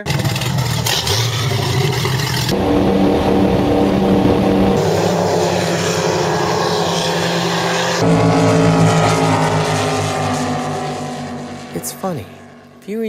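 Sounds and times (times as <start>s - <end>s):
powerboat engines at high speed: 0.0s - 13.0s.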